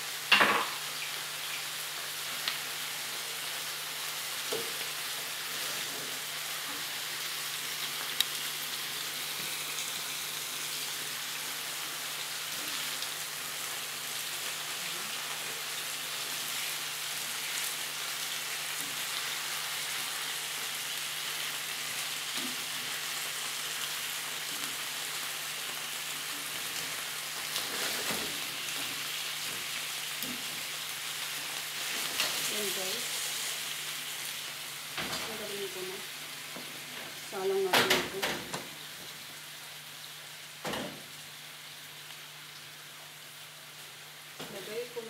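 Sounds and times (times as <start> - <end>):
chicken sizzling in hot oil: 0.0 - 45.0.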